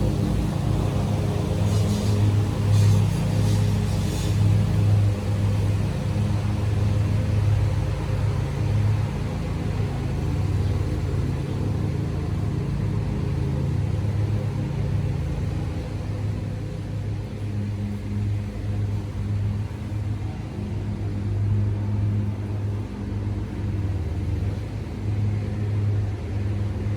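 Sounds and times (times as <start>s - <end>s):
low mechanical hum: 0.0s - 26.9s.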